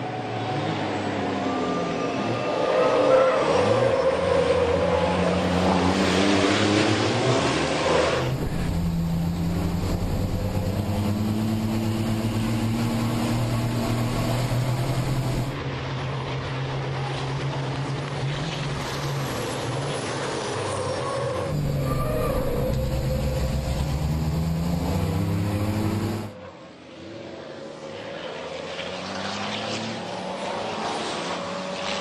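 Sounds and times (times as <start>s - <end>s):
racing truck engines: 0.0s - 32.0s.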